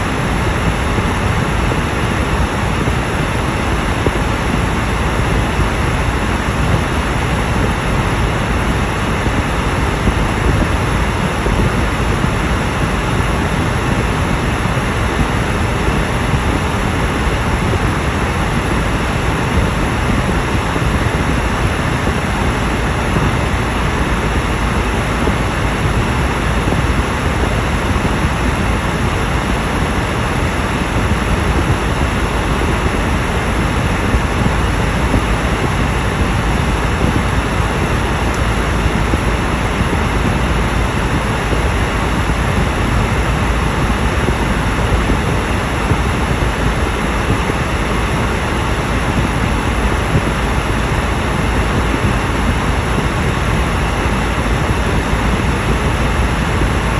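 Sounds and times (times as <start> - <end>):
road and tyre noise in car: 0.0 - 56.9.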